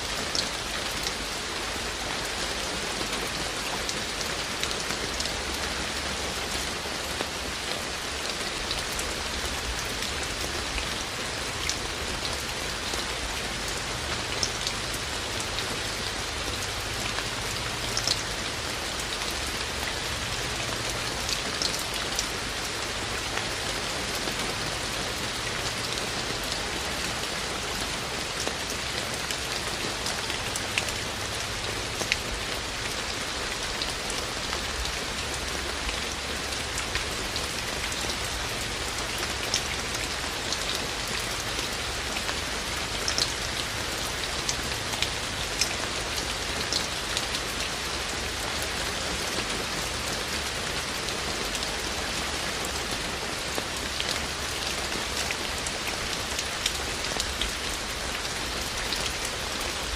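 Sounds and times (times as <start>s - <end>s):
raindrops dripping and splashing: 0.0s - 59.9s
steady rain hiss: 0.0s - 59.9s.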